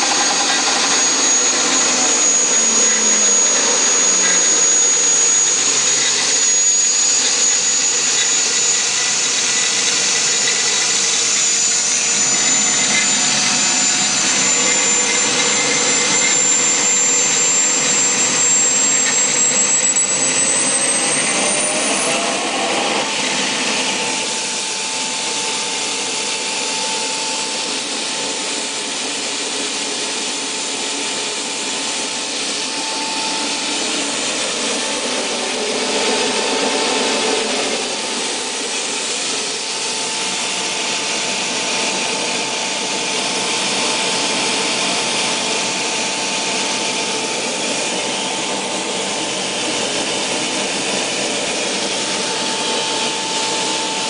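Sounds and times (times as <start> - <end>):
gas turbine whine: 0.0 - 54.0.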